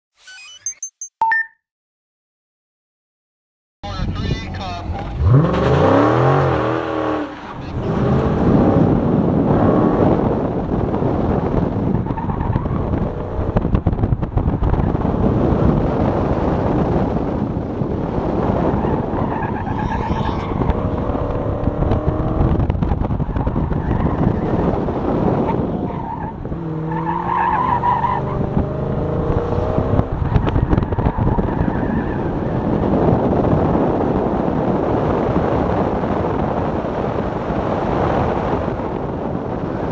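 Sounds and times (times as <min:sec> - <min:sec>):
car engine revving: 0:04.0 - 0:37.9.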